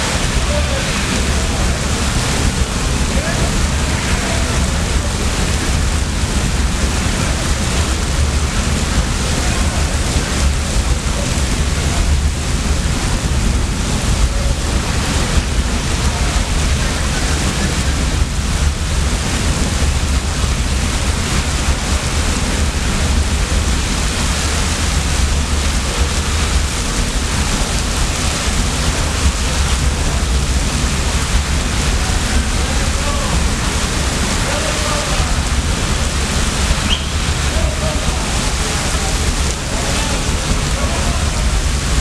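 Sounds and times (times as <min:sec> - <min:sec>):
deep rumble: 0:00.0 - 0:42.0
fire burning with loud rush: 0:00.0 - 0:42.0.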